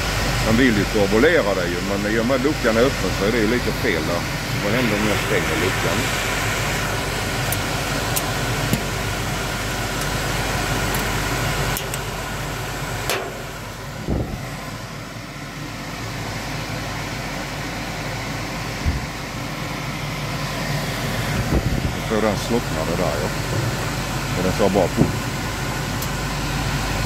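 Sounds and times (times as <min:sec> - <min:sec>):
stove blower fan and burner rushing: 0:00.0 - 0:27.0.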